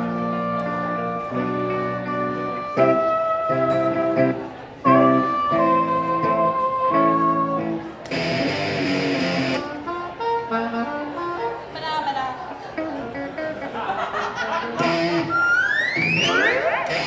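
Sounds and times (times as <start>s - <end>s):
guitar chords: 0.0s - 11.8s, 12.8s - 17.0s
wind instrument melody: 0.0s - 12.0s, 14.8s - 17.0s.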